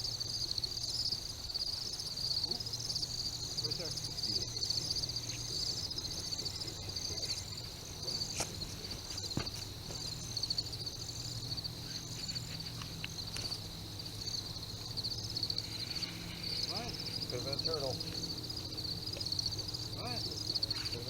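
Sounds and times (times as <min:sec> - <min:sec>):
night insects chirping: 0:00.0 - 0:21.0.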